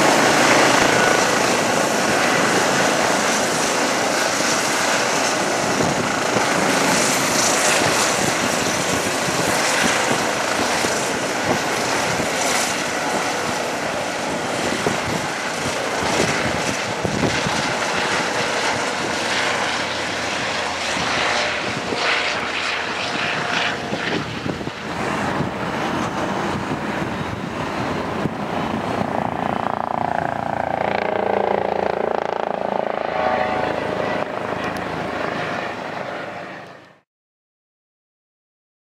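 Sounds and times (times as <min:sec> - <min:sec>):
helicopter rotor and turbine: 0:00.0 - 0:37.0.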